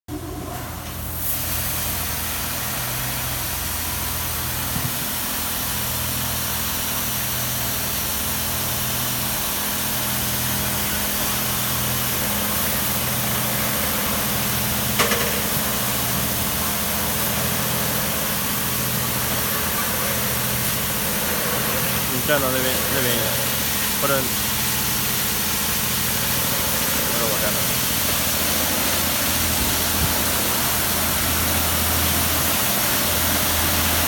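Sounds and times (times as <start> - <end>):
high-pressure water spray hiss: 0.9 - 34.0.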